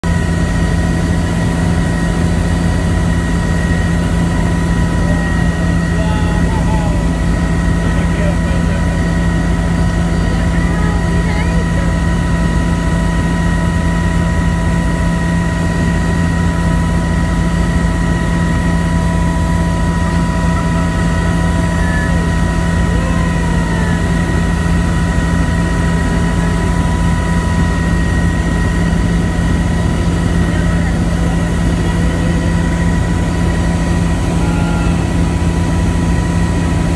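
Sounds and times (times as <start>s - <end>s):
helicopter rotor and engine drone: 0.0s - 36.9s.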